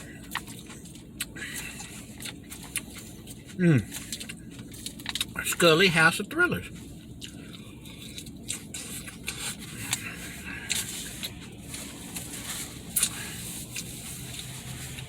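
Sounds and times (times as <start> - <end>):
wet chewing: 0.0 - 5.6, 6.6 - 15.0.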